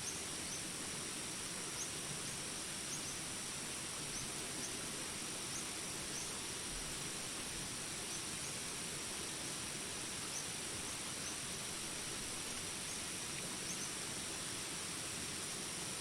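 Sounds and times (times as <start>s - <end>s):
insect drone: 0.0s - 16.0s
rain hiss: 0.0s - 16.0s.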